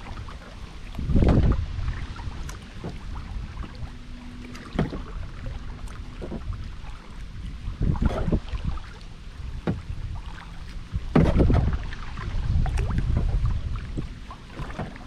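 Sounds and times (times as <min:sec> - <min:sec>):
kayak paddle splashing in water: 0:00.0 - 0:15.0
low rumble: 0:00.0 - 0:15.0.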